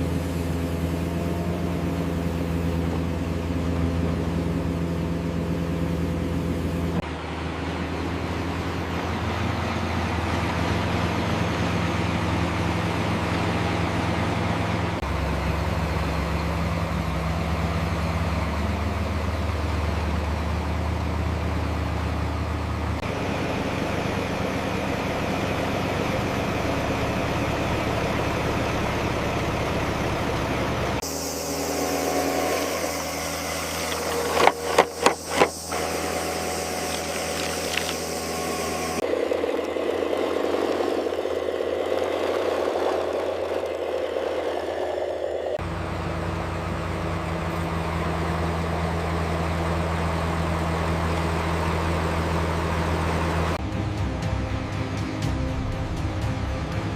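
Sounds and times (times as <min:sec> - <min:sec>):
construction machinery engines: 0:00.0 - 0:56.9.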